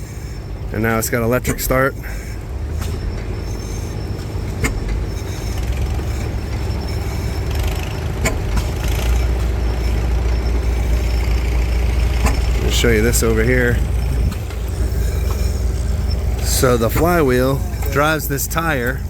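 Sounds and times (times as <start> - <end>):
stationary engine rumbling: 0.0 - 19.0.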